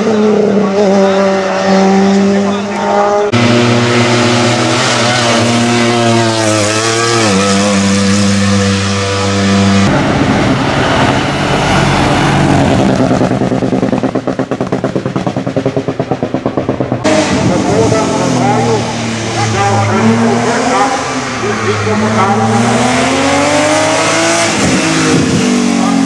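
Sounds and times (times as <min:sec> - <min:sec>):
race car engines running hard: 0:00.0 - 0:26.0
rough pulsing car engine: 0:00.0 - 0:26.0.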